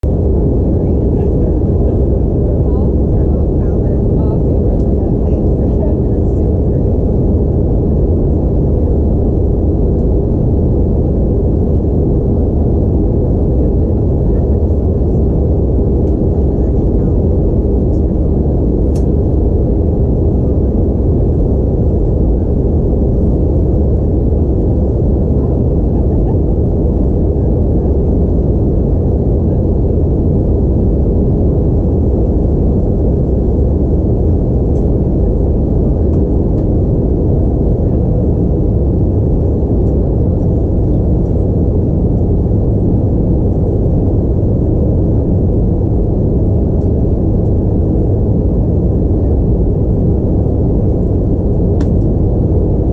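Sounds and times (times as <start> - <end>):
jet engines humming: 0.0 - 49.4
airflow over fuselage: 0.0 - 52.9
airliner cabin rumble: 0.0 - 52.9.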